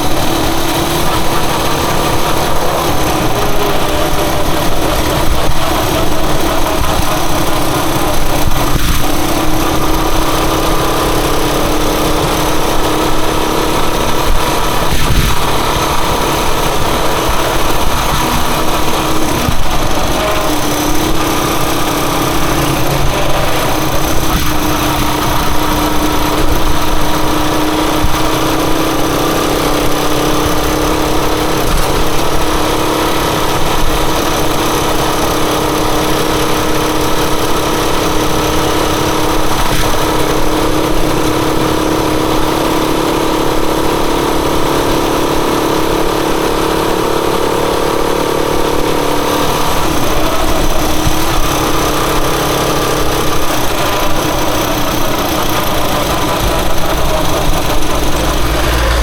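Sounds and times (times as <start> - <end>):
constant rushing noise: 0.0 - 59.0
motorcycle engine running steadily: 0.0 - 59.0.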